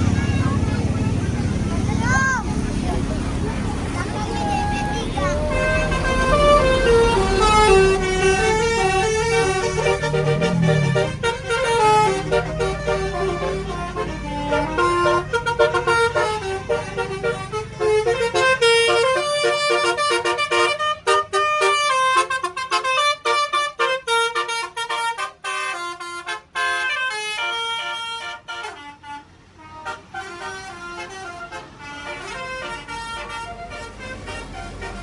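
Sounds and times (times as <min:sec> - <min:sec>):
bus engine rumbling: 0:00.0 - 0:35.0
multi-tone melody horn: 0:04.2 - 0:35.0.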